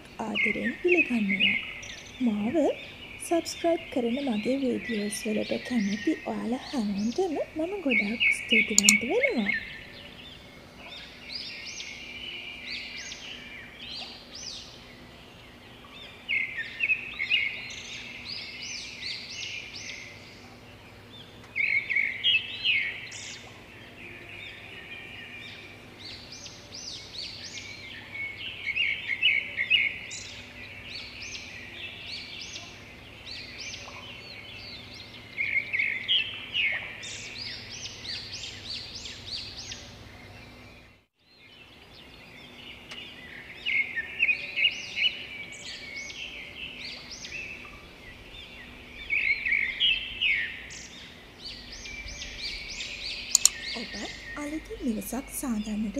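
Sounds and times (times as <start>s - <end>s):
faint steady hum: 0.0s - 55.9s
songbirds chirping: 0.0s - 55.9s.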